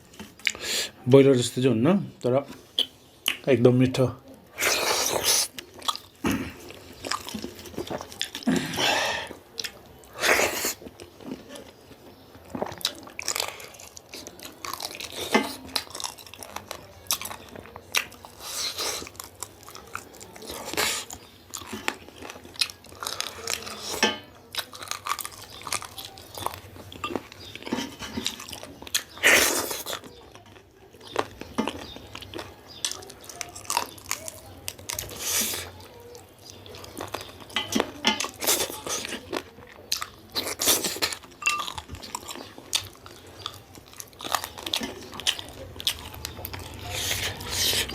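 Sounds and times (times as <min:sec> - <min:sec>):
chewing and biting bony meat: 0:04.5 - 0:11.8, 0:12.4 - 0:47.9.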